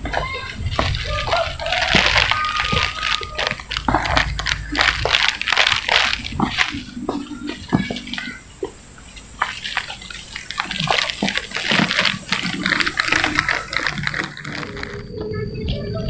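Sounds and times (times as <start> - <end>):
high-pitched drone: 0.0 - 10.6, 11.6 - 16.0
footsteps on dry leaves: 0.0 - 15.1.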